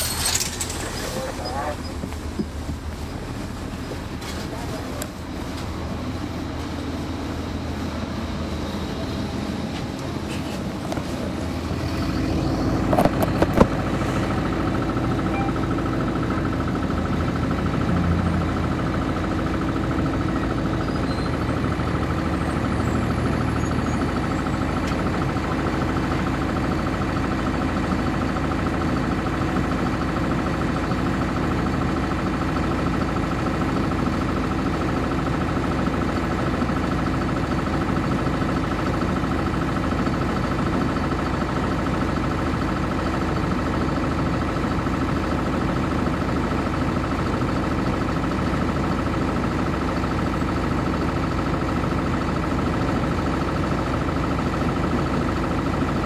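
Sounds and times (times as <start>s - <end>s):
diesel bus engine running: 0.0s - 56.0s.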